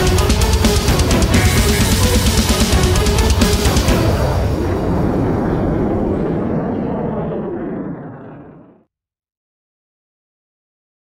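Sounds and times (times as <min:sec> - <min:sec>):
deep noisy rumble: 0:00.0 - 0:08.8.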